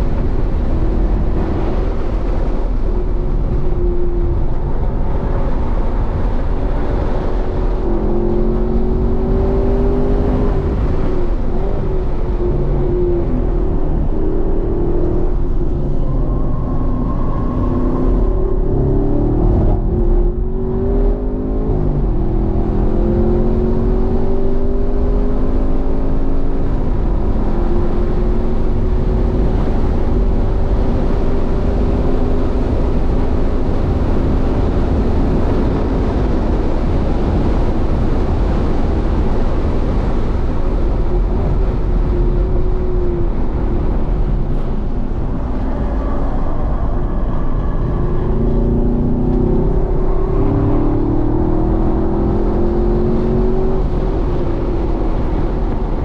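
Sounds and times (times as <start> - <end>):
car engine revving: 0.0 - 56.0
wind and tyre noise: 0.0 - 56.0.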